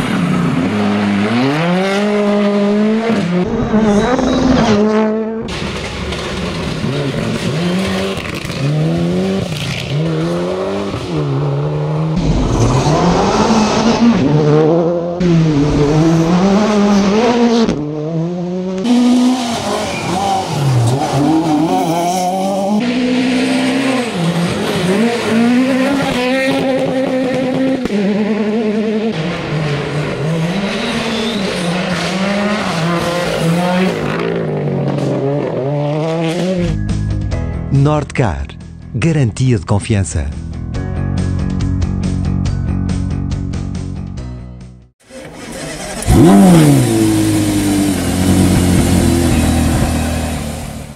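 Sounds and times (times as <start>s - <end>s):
rally car engines revving: 0.0s - 37.0s, 45.1s - 50.9s.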